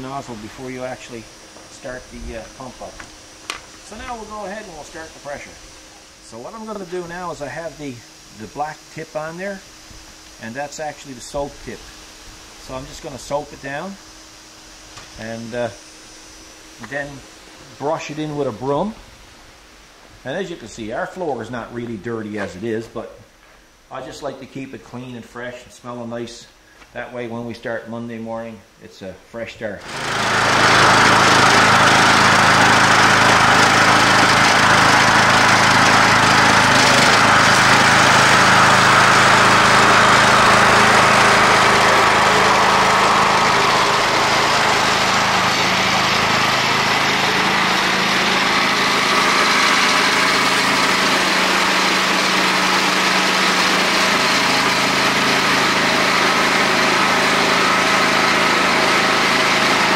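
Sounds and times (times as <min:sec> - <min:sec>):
pressure washer engine drone: 0:00.0 - 0:19.7, 0:29.8 - 0:59.9.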